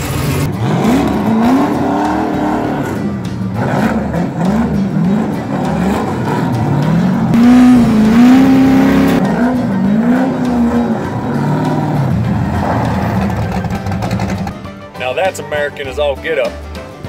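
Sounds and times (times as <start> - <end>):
car engines revving: 0.0 - 14.7.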